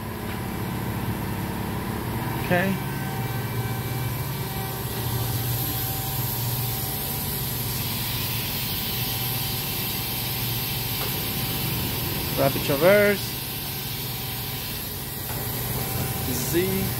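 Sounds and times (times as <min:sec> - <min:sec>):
machine humming with hiss: 0:00.0 - 0:16.9.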